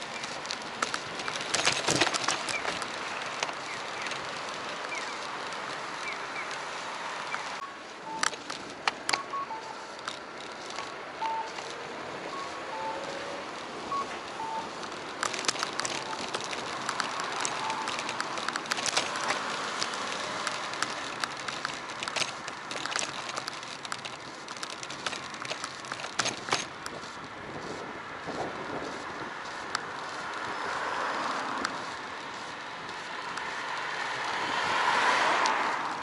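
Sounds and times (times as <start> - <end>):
bicycle clicks and rattles: 0.0 - 36.0
road and wind noise: 0.0 - 36.0.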